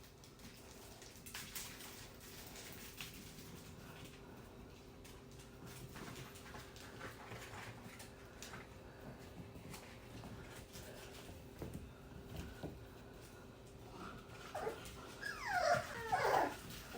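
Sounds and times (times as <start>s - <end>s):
puppies clicking and scuffling: 0.0s - 16.9s.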